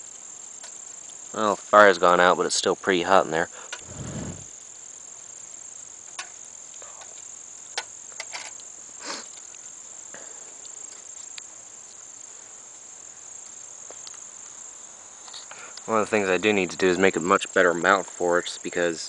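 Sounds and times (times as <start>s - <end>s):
insect chorus chirring: 0.0s - 19.0s.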